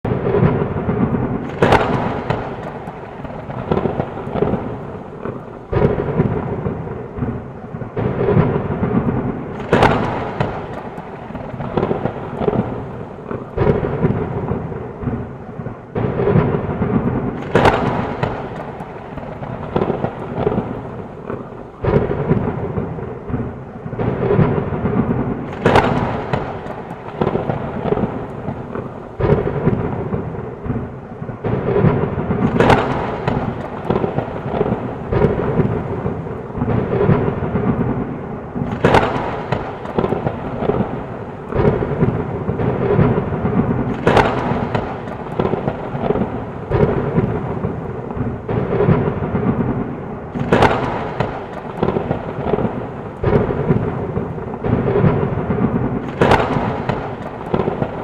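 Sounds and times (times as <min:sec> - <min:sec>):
crackling thunder: 0:00.0 - 0:58.0
heavy rain hiss: 0:00.2 - 0:58.0.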